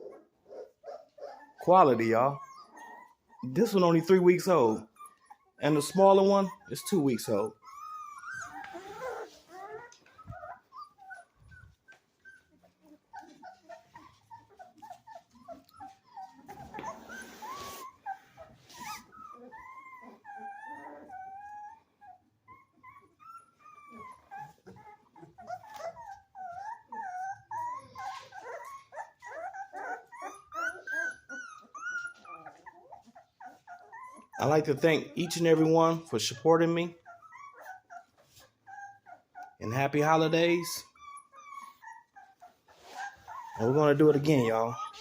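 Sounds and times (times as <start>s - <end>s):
puppies whimpering and squealing: 0.0s - 45.0s.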